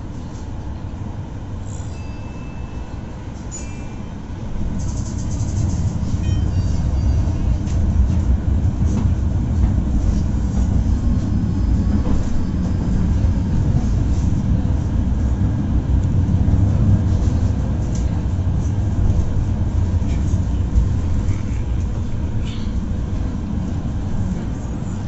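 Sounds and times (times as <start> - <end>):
tram rumbling on rails: 0.0 - 25.0.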